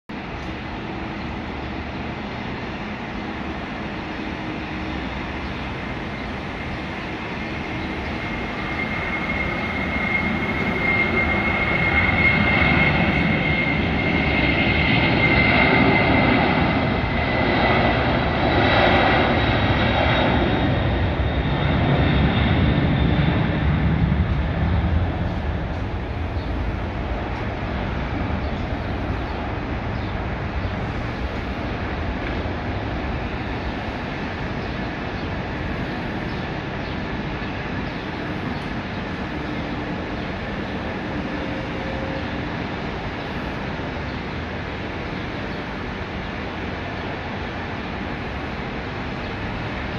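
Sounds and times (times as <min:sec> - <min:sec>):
high jet engine whine: 0:00.1 - 0:49.9
jet engines at takeoff power: 0:00.1 - 0:49.9.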